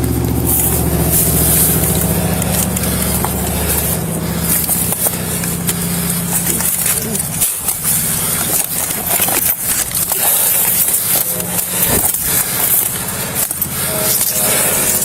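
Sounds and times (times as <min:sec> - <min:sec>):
crackling and scraping noise: 0:00.0 - 0:15.0
vehicle engine running: 0:00.0 - 0:15.0.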